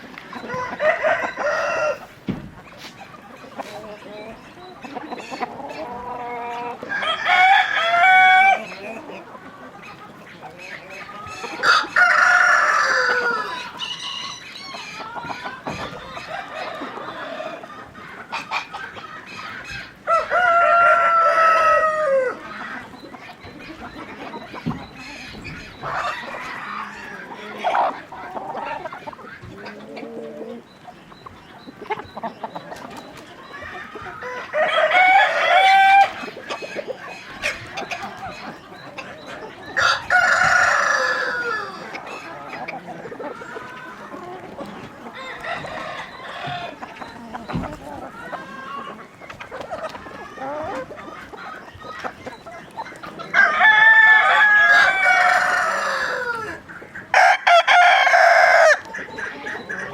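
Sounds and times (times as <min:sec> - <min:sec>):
hens clucking: 0:00.0 - 0:59.9
roosters crowing: 0:00.0 - 0:59.9.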